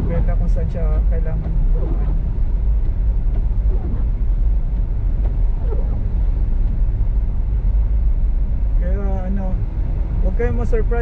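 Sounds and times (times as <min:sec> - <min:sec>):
car driving on snowy road: 0:00.0 - 0:11.0.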